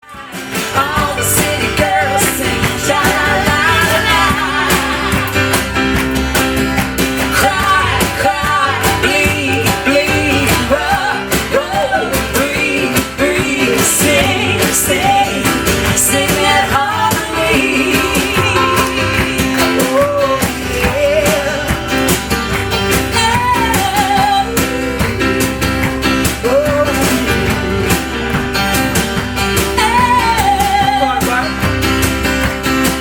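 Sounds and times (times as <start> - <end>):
live band music: 0.0 - 33.0.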